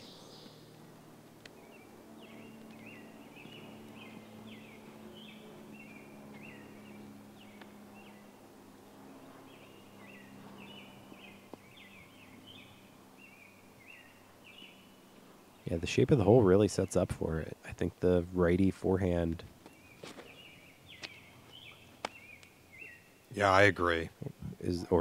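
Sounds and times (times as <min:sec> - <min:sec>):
songbird chirping: 0:00.0 - 0:08.6, 0:09.2 - 0:25.0
low background hum: 0:00.0 - 0:25.0.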